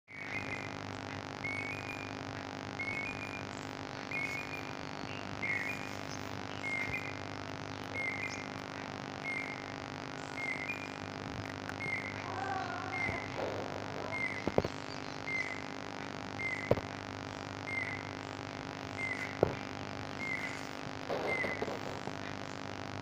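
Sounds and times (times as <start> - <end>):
bird chirping: 0.1 - 22.6
steady low hum: 0.1 - 23.0.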